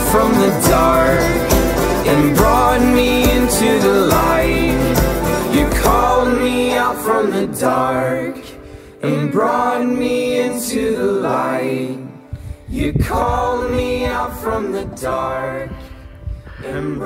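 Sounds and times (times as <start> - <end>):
a cappella choir singing: 0.0 - 17.0.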